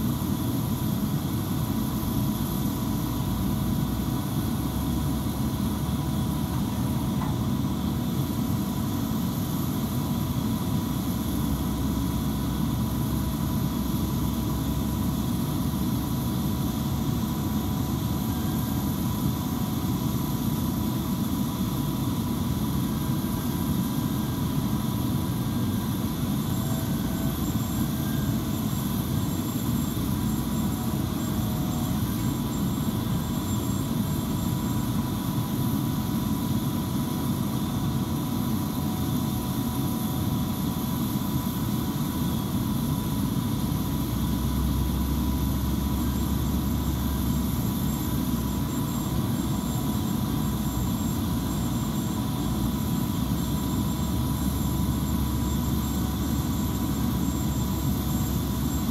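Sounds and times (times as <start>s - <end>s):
faint whining tones: 0.0s - 58.9s
jet engines idling: 0.0s - 58.9s.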